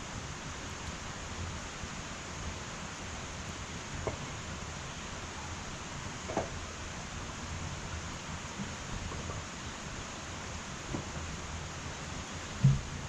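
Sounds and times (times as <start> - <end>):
wood fire hissing and popping: 0.0 - 13.0.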